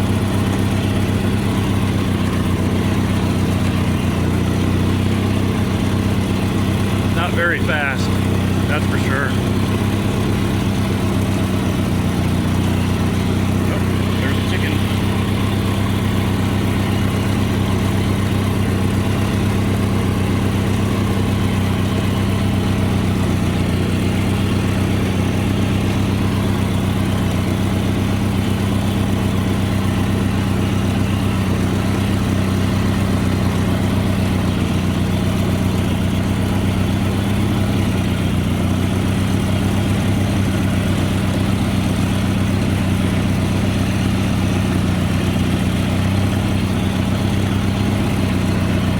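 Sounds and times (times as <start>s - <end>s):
garden tractor engine running: 0.0s - 48.9s.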